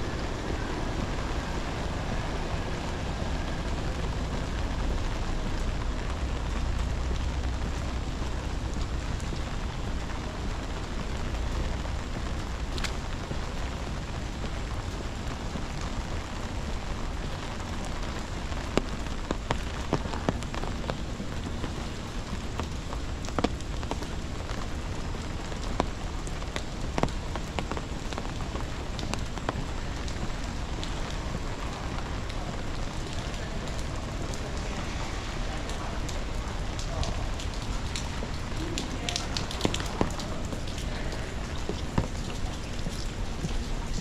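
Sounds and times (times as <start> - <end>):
rain falling on ground: 0.0 - 44.0.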